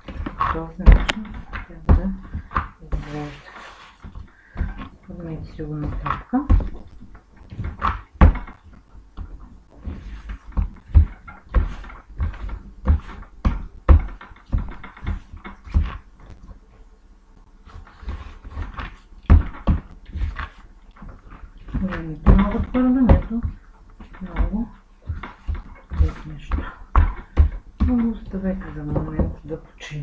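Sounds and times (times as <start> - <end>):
dough thumping on tabletop: 0.0 - 16.6, 17.6 - 30.0.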